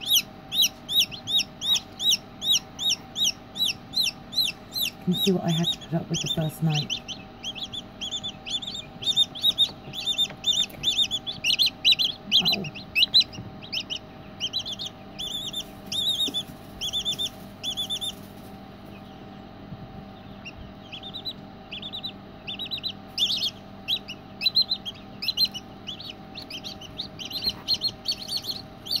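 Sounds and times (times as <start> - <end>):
chick peeping: 0.0 - 29.0
faint steady hum: 0.0 - 29.0.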